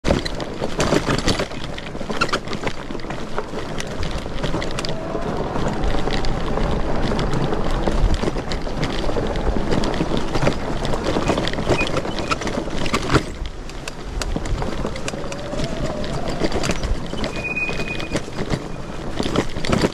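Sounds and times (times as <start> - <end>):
bike clicks and rattles: 0.0 - 19.9
tyre and wind noise: 0.0 - 19.9.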